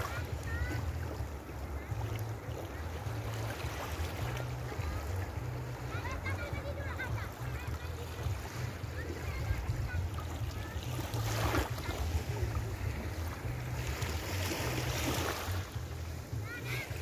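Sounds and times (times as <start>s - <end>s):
small waves washing on sand: 0.0s - 17.0s.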